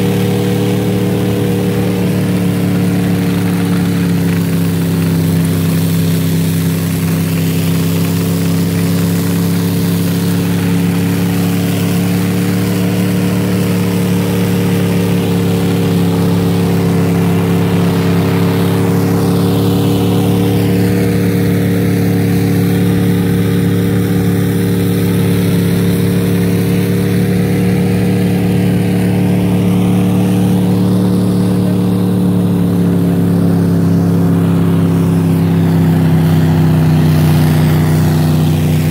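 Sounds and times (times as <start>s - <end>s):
snowcat engine running: 0.0s - 38.9s.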